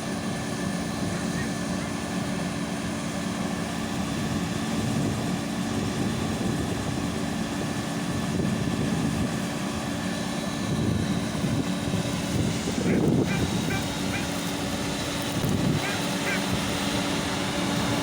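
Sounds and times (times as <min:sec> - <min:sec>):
farm machinery diesel engine: 0:00.0 - 0:18.0.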